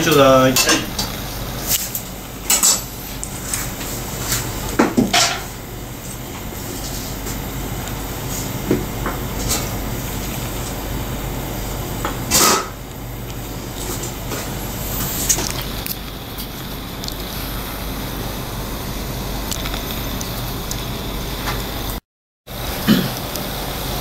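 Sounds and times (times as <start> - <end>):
restaurant room hum: 0.0 - 24.0.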